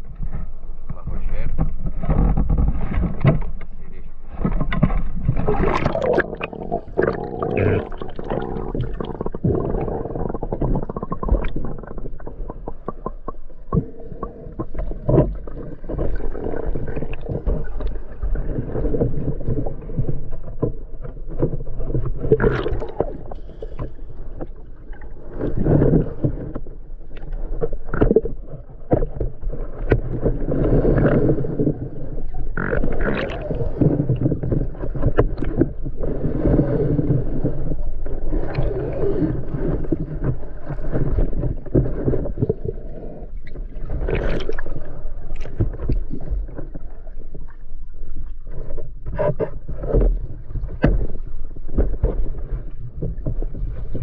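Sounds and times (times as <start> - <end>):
water sloshing and gurgling: 0.0 - 54.0
knocks and splashes: 4.3 - 42.8, 43.6 - 47.2, 48.7 - 54.0.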